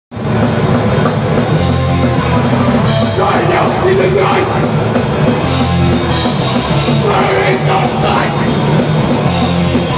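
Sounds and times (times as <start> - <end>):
drum kit and cymbals: 0.1 - 9.9
rock band playing live: 0.1 - 9.9.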